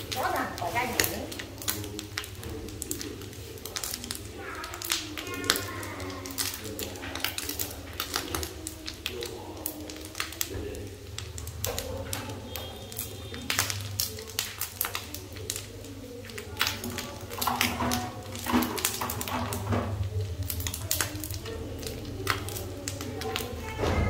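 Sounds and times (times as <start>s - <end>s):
chopsticks clicking and scraping pan: 0.0s - 23.5s
fish sizzling in frying pan: 0.0s - 24.0s
sauce bubbling: 0.0s - 24.0s.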